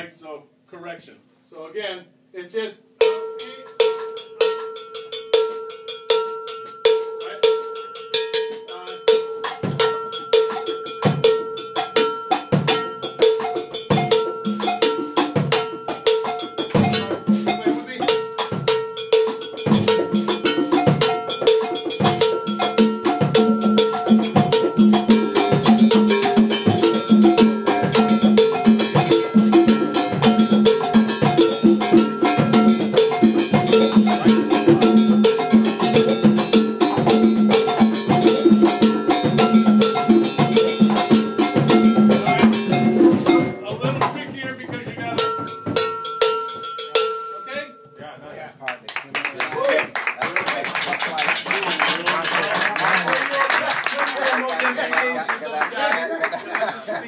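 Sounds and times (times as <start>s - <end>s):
percussion ensemble groove: 1.6s - 57.0s.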